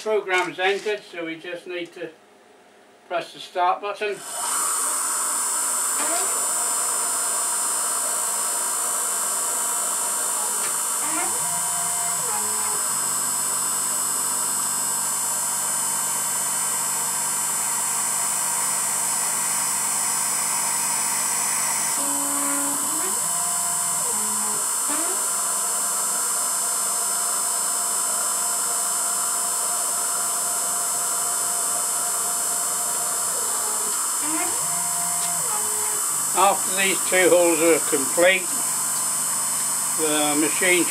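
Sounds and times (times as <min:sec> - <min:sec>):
milling machine spindle whine: 0:04.2 - 0:40.9.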